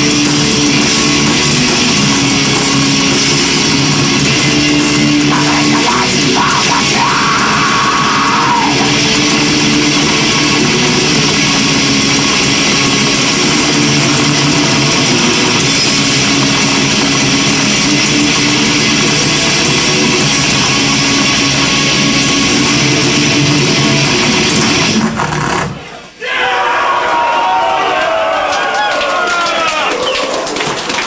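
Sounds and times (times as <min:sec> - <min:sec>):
bass guitar: 0:00.0 - 0:26.0
distorted electric guitars: 0:00.0 - 0:26.0
drums: 0:00.0 - 0:31.0.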